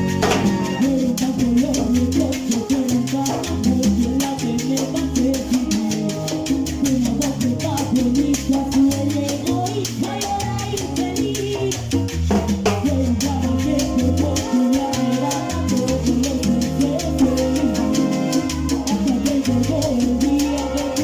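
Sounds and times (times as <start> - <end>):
salsa band playing: 0.0 - 21.0.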